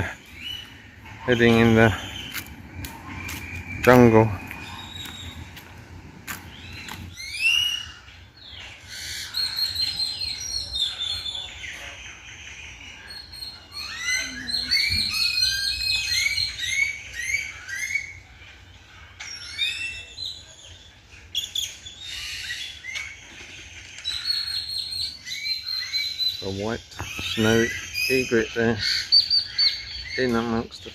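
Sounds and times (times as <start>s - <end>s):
birds chirping and whistling: 0.0s - 30.9s.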